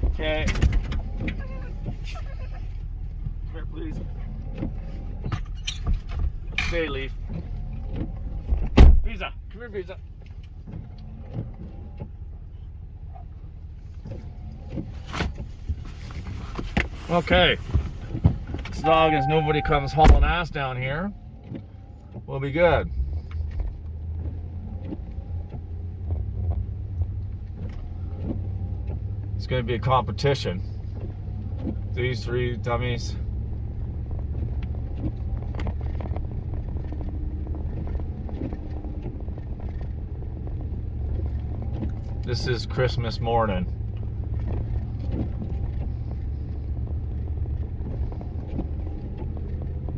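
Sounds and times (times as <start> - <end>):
vehicle engine idling: 0.0 - 49.9.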